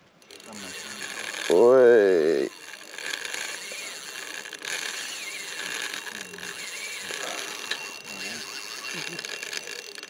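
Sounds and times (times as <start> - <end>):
fishing reel ratchet clicking: 0.2 - 10.0.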